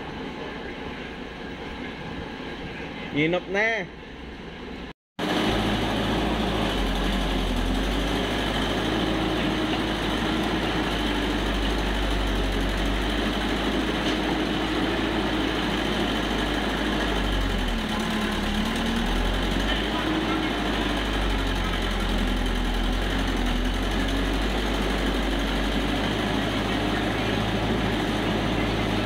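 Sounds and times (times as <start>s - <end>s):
excavator diesel engine running: 5.2s - 29.0s.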